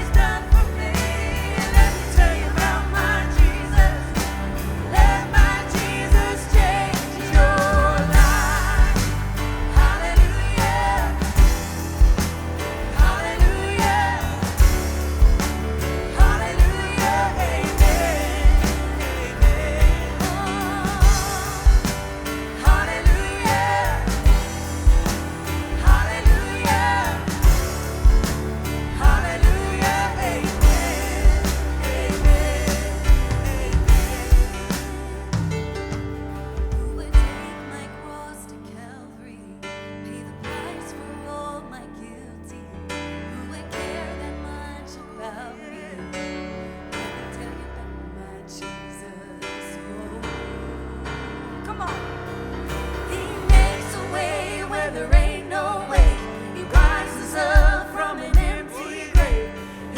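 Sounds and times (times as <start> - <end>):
live worship band playing: 0.0 - 59.9.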